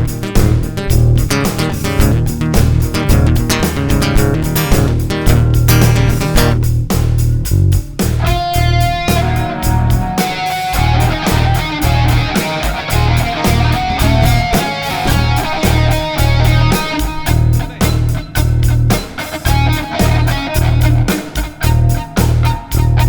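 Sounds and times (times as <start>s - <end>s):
electric guitar: 0.0s - 6.7s, 8.0s - 23.0s
pulsing bass: 0.0s - 10.2s, 10.8s - 23.0s
steady drum beat: 0.0s - 23.0s.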